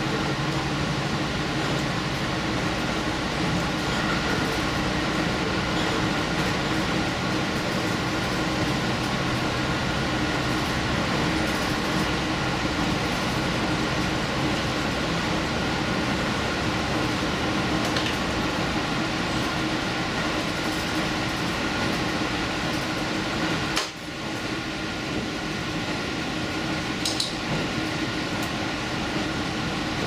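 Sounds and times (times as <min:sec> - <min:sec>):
steady train hum: 0:00.0 - 0:30.0.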